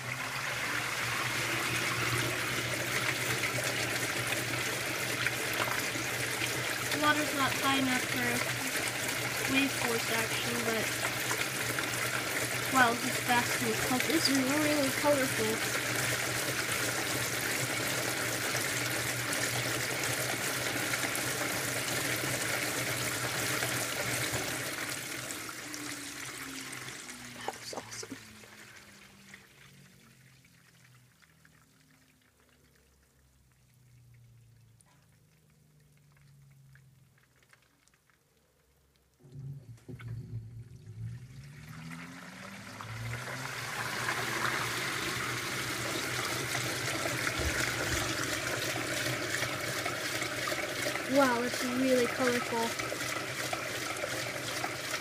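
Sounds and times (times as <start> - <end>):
washer motor whine: 0.0 - 37.2, 38.6 - 55.0
washer water and clothes churning: 0.0 - 37.8, 41.2 - 55.0.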